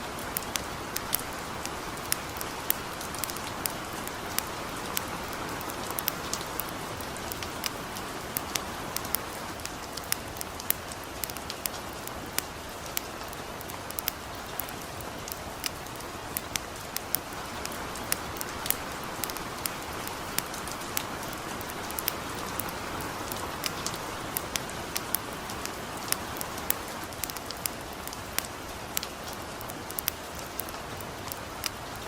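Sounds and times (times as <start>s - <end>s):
campfire crackling: 0.0s - 32.0s
gentle rain falling: 0.0s - 32.0s.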